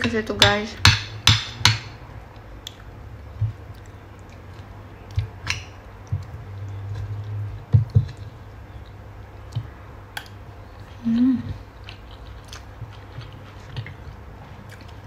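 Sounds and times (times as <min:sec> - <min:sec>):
person chewing food: 0:02.3 - 0:15.0.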